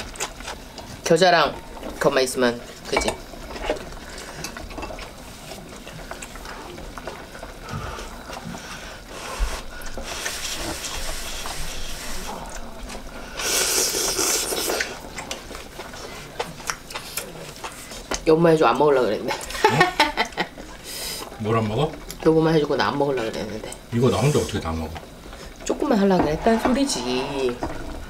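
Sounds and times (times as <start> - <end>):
broth simmering with a hiss: 0.0 - 28.0
eating with chopsticks: 0.0 - 28.0.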